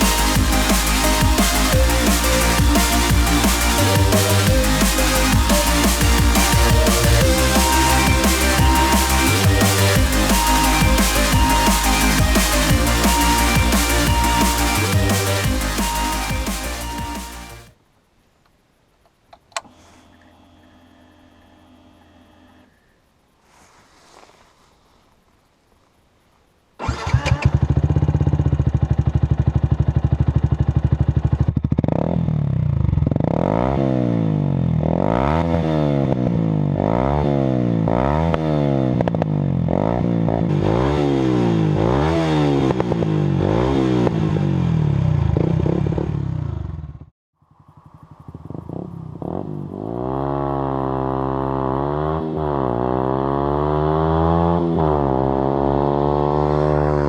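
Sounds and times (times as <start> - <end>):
motorcycle engine revving: 0.0 - 17.6, 26.8 - 57.0.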